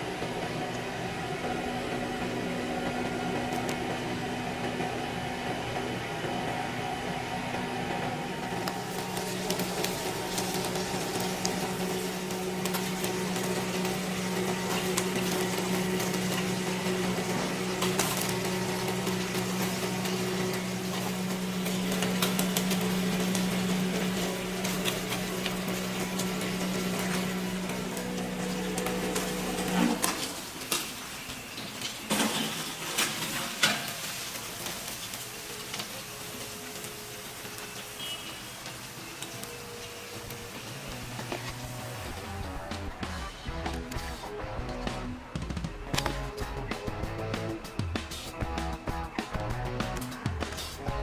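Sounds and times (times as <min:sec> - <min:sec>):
grilling machine humming: 0:00.0 - 0:51.0.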